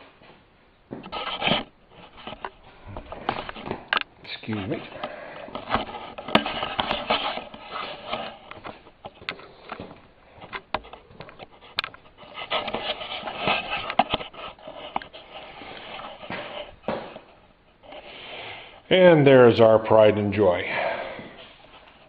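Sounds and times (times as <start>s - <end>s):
rustling and scraping: 0.0s - 19.4s, 21.2s - 22.0s.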